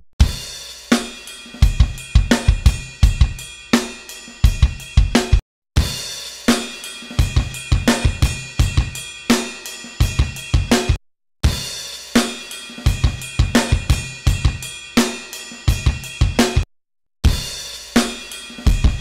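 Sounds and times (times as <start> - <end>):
drum kit beat: 0.2 - 19.0.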